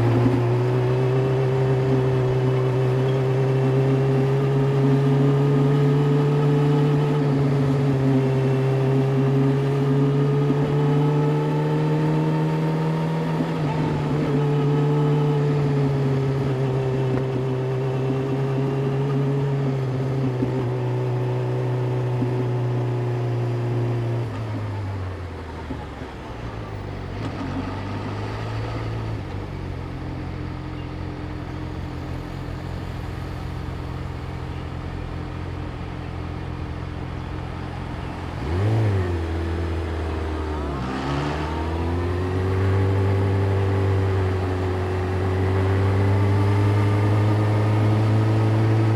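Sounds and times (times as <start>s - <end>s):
motorcycle engine revving: 0.0s - 24.8s, 27.1s - 48.9s.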